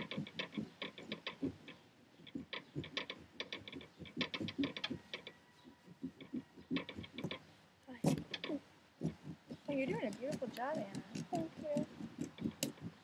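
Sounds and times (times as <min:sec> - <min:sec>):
carving tool scratching pumpkin rind: 0:00.0 - 0:13.0.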